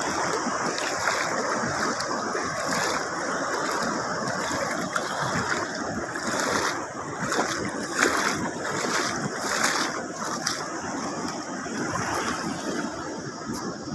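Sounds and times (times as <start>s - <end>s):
waves washing against rocks: 0.0s - 13.9s.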